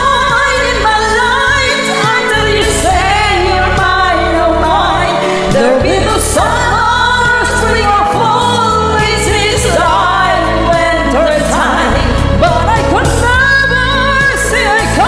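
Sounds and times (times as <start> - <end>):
person singing karaoke: 0.0 - 15.0
pop backing track: 0.0 - 15.0.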